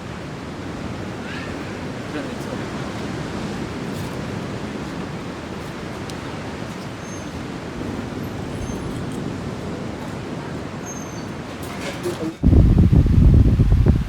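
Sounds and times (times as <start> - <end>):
beach surf: 0.0 - 14.0
wind buffeting microphone: 0.0 - 14.0.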